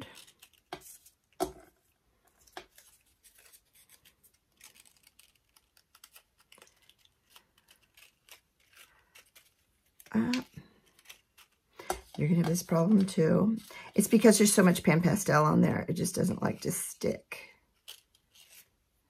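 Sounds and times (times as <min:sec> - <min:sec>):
paper rustling and crinkling: 0:00.0 - 0:14.4, 0:17.7 - 0:18.8.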